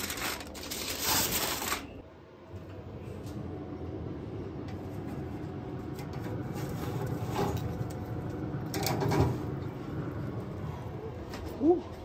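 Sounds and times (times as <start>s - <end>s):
steady low rumble: 2.0s - 12.0s.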